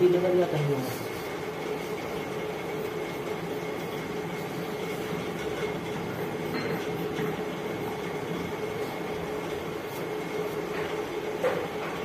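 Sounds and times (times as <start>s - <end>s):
mechanical drone with low hum: 0.0s - 12.0s.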